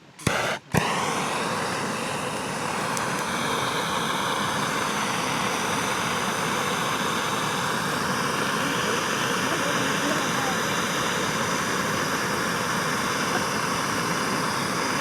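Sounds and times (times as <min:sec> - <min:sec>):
fire starter rushing hiss: 0:00.0 - 0:15.0.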